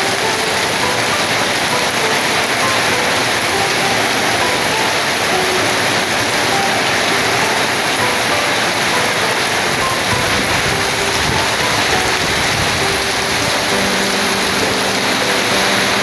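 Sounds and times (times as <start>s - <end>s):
heavy rain in strong wind: 0.0s - 16.0s.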